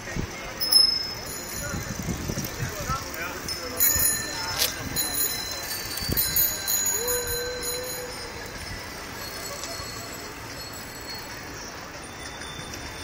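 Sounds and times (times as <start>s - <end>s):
wind and road noise: 0.0s - 13.0s
bicycle bells ringing: 0.3s - 13.0s.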